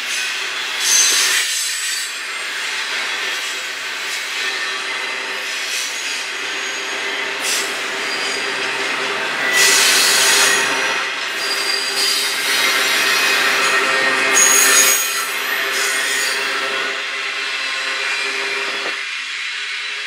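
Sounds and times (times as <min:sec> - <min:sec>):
freight train wheels on rails: 0:00.0 - 0:20.0
high-pitched wheel squeals: 0:00.1 - 0:19.0.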